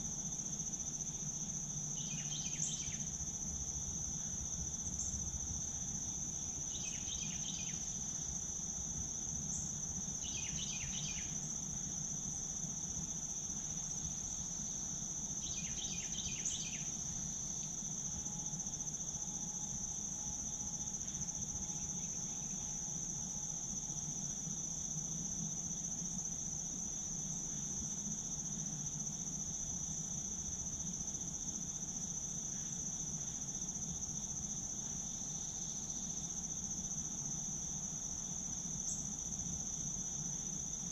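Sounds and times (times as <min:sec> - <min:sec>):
insect chorus trilling: 0:00.0 - 0:40.9.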